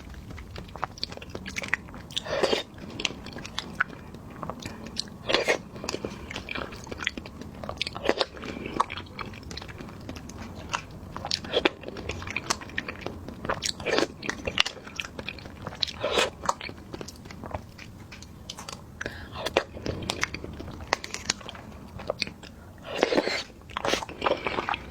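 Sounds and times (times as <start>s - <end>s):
crunchy chewing: 0.0s - 24.9s.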